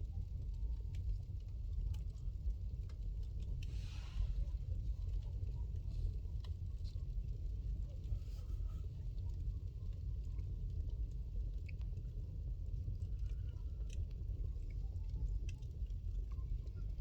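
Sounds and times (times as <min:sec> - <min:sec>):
wood fire rumbling: 0:00.2 - 0:17.0.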